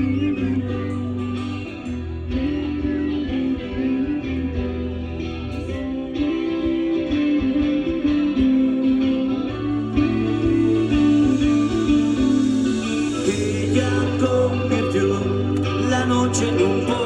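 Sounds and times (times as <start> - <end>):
bass: 0.0 - 17.0
drums: 0.0 - 17.0
electric guitar melody: 0.0 - 17.0.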